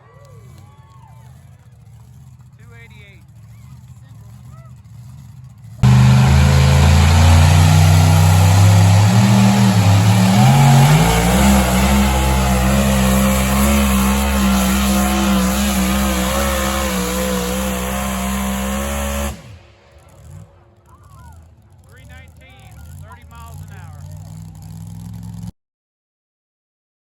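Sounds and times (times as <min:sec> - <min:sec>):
engine at full throttle: 0:00.3 - 0:25.5.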